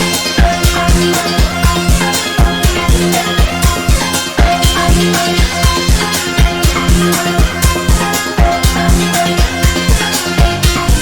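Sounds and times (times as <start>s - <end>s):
electronic drum beat: 0.0s - 11.0s
low bass line: 0.0s - 11.0s.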